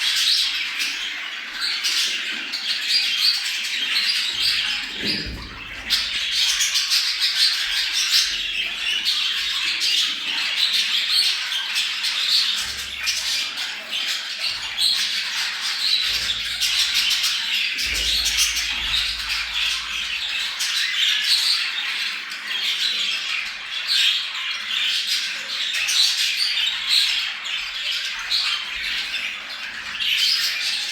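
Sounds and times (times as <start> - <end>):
budgerigars chattering and warbling: 0.0 - 30.9.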